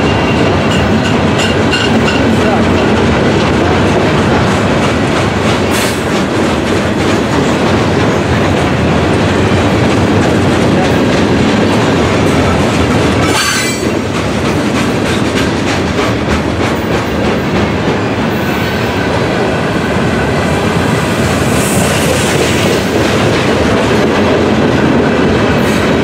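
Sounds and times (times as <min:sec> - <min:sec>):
clickety-clack over rail joints: 0:00.0 - 0:26.0
steel wheels rumbling on rail: 0:00.0 - 0:26.0.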